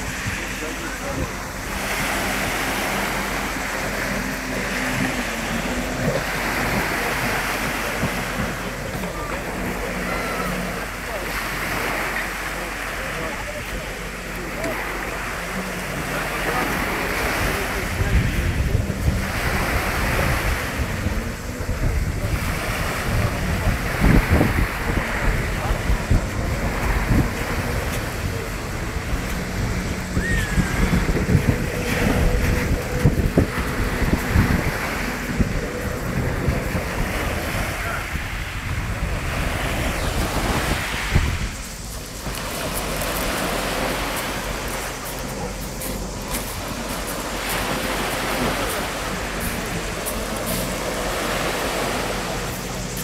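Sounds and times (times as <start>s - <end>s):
jet ski engine hum: 0.0s - 53.0s
rushing water: 0.0s - 53.0s
sea waves washing: 0.0s - 53.0s
wind: 0.0s - 53.0s.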